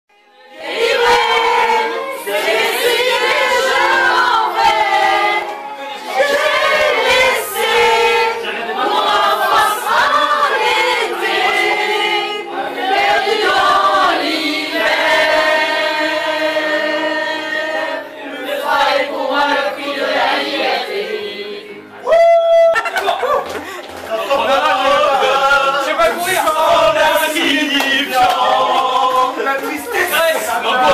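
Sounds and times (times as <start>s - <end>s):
women singing together: 0.2s - 21.8s, 24.2s - 30.9s.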